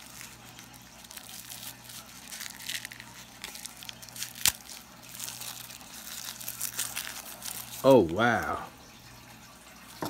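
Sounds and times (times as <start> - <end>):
plastic wrapping crinkling and tearing: 0.0 - 8.6.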